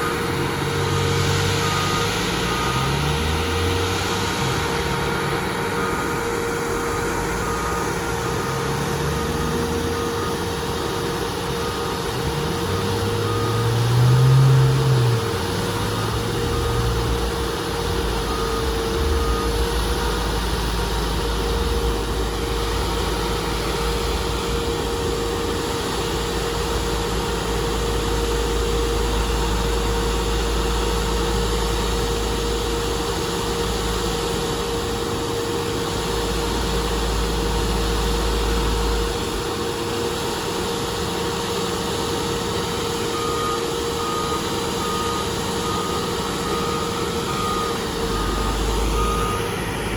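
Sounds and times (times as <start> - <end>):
constant whine: 0.0 - 49.9
diesel paving machine running: 0.0 - 49.9.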